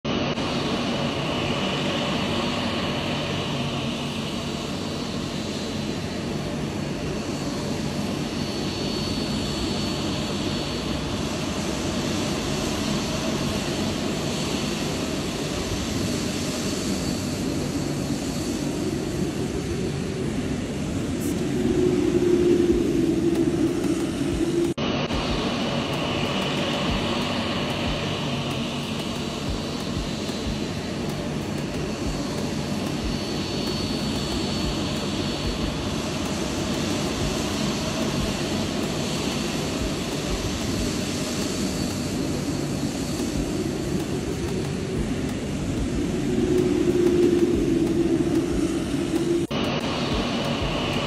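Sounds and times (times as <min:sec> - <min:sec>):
jet engines rushing: 0:00.1 - 0:51.0.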